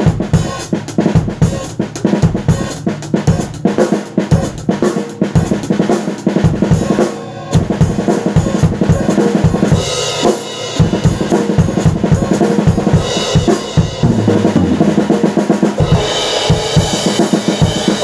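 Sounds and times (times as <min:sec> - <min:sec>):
fast drum kit playing: 0:00.0 - 0:18.0.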